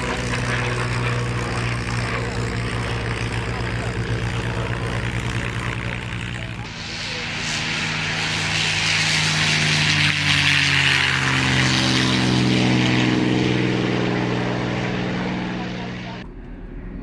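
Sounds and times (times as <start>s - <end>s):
propeller plane engine at full power: 0.0s - 17.0s.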